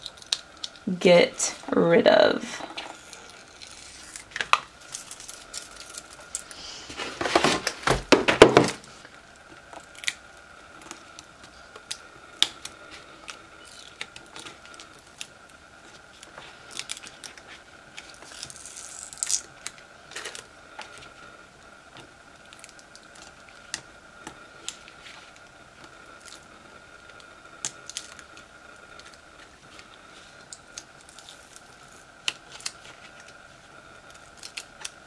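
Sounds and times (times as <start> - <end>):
vinyl film peeling with crackling: 0.0 - 0.9, 2.6 - 8.0, 8.6 - 35.0.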